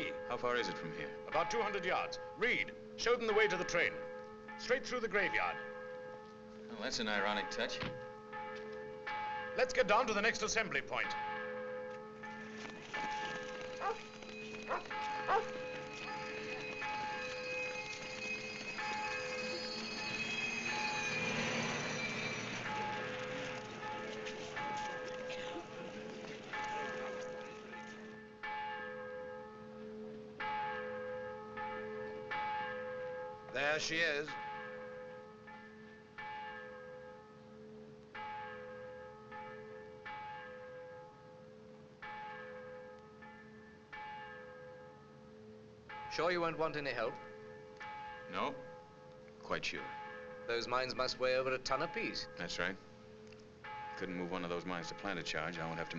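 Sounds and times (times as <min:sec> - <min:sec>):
bells ringing: 0:00.0 - 0:45.1, 0:45.9 - 0:55.9.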